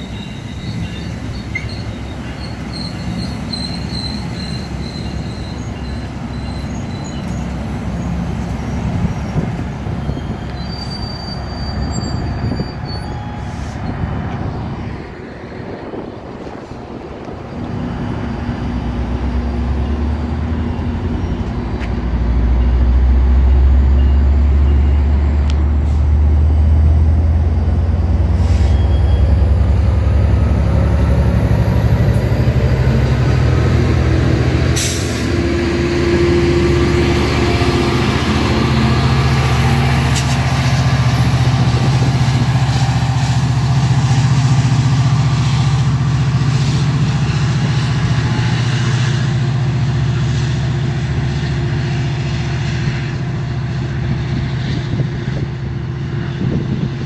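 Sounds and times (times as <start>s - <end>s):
diesel locomotive engine hum: 0.0s - 57.0s
train wheel rumble: 0.0s - 57.0s.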